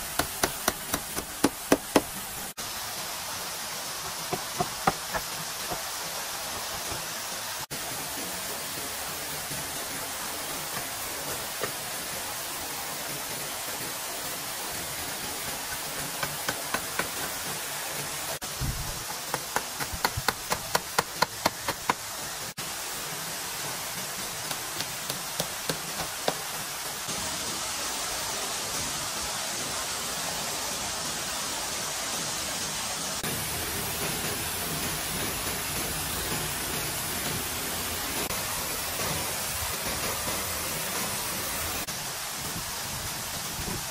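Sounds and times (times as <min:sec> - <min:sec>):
steady rushing hiss: 0:00.0 - 0:43.9.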